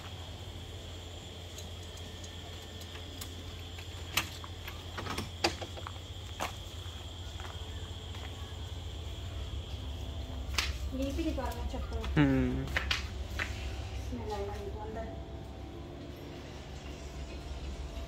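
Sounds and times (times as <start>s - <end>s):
insects trilling: 0.0s - 18.0s
low hum: 0.0s - 18.0s.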